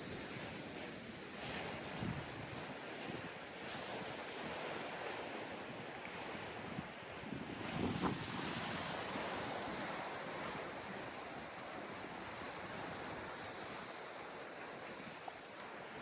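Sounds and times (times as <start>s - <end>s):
sea surf breaking on beach: 0.0s - 16.0s
wind rumbling on microphone: 0.0s - 16.0s.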